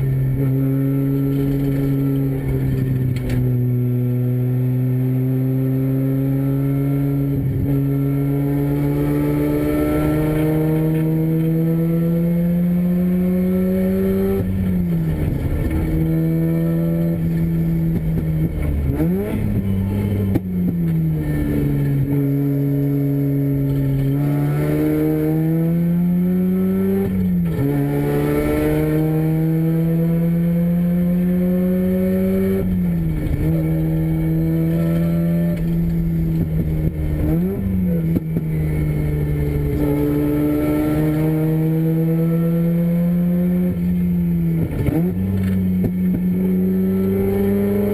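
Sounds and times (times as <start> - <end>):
rotary race car engine revving: 0.0 - 47.9.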